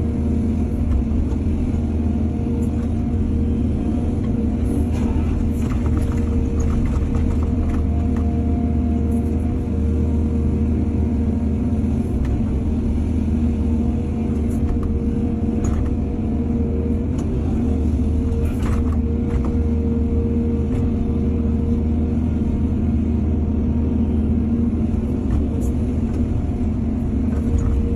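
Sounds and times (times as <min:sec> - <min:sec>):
diesel machinery engine rumble: 0:00.0 - 0:27.9.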